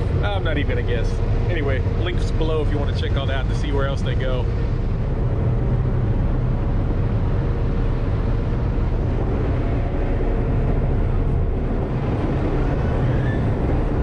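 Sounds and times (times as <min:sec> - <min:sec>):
ship engines droning: 0:00.0 - 0:14.0
water rushing along hull: 0:00.0 - 0:14.0.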